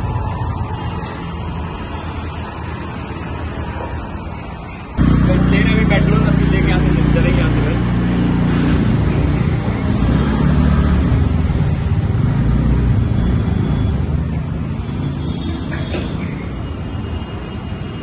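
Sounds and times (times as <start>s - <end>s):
vehicle engine rumbling: 0.0s - 16.6s.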